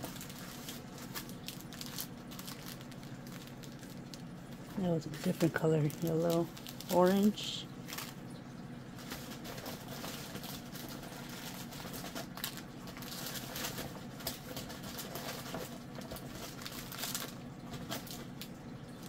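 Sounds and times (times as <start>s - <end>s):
small rustles and ticks: 0.0s - 19.0s.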